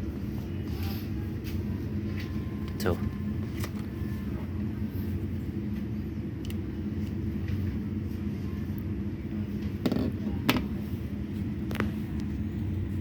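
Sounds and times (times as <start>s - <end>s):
constant hum: 0.0s - 13.0s
low mechanical rumble: 0.0s - 13.0s.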